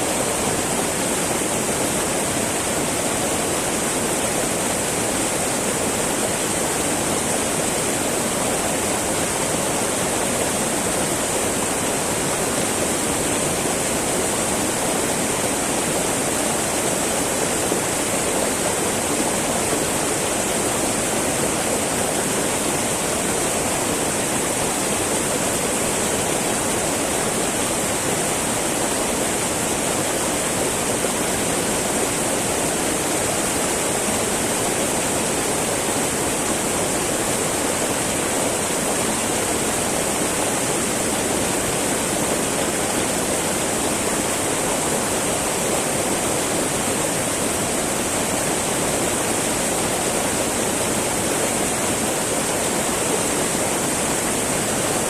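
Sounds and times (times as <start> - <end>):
mountain river rushing over rocks: 0.0 - 55.0.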